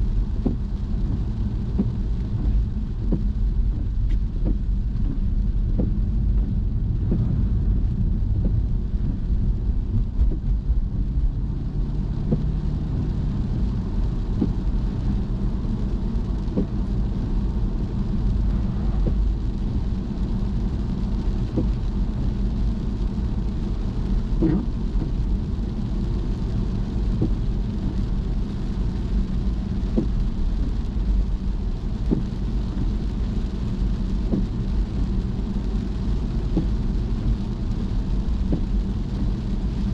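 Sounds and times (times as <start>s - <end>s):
tyre and engine rumble: 0.0s - 39.9s
wet road hiss: 0.0s - 39.9s.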